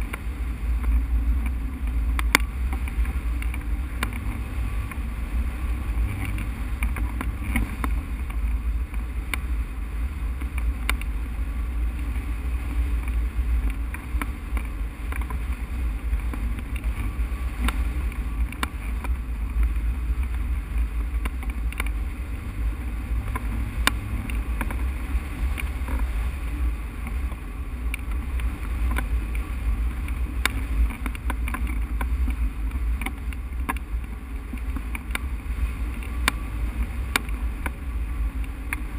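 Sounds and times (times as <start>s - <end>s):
faint ticks: 0.0s - 38.9s
wind buffeting microphone: 0.0s - 38.9s.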